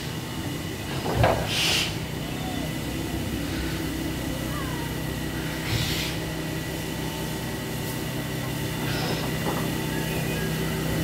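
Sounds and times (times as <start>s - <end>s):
steady mechanical hum: 0.0s - 11.0s
steam hissing: 0.0s - 11.0s.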